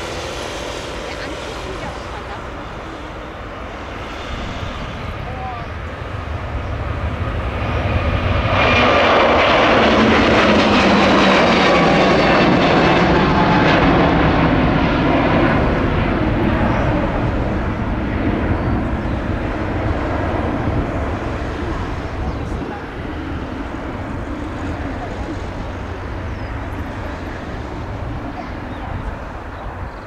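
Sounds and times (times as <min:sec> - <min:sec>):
jet engines roaring at takeoff: 0:00.0 - 0:30.0.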